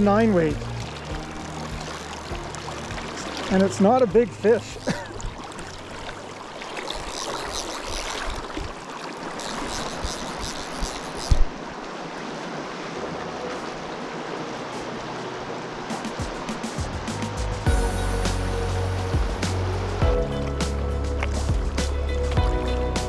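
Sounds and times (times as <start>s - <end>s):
river water rushing: 0.0s - 23.0s
water splashing: 0.0s - 23.0s.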